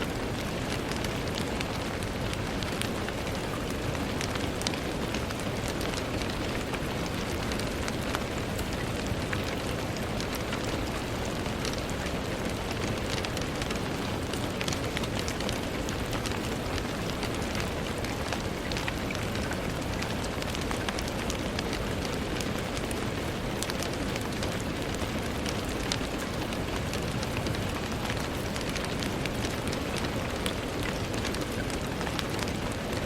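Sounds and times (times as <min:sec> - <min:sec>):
rain pattering on a window: 0:00.0 - 0:33.0.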